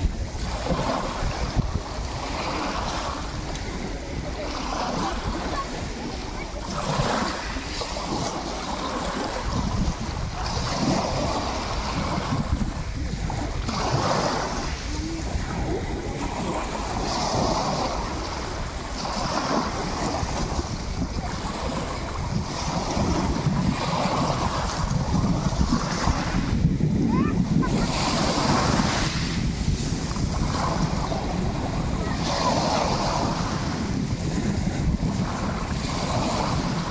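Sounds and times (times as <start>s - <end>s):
waves breaking on pebble shore: 0.0s - 36.9s
wind rumbling on microphone: 0.0s - 36.9s.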